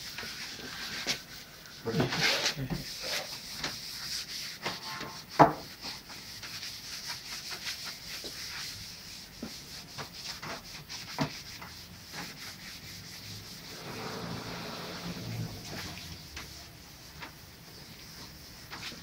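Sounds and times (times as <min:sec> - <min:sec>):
cloth pad scrubbing wood: 0:00.0 - 0:19.0.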